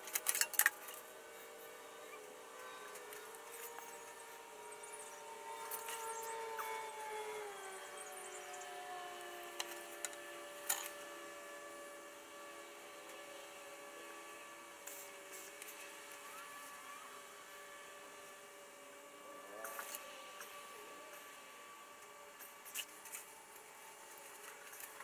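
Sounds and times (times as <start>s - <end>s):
sustained tones shifting in pitch: 1.1s - 24.9s.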